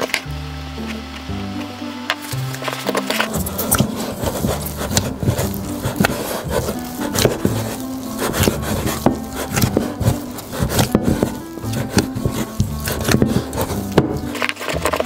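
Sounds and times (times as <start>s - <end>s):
background music: 0.0s - 15.0s
hands kneading dough in bowl: 2.1s - 15.0s.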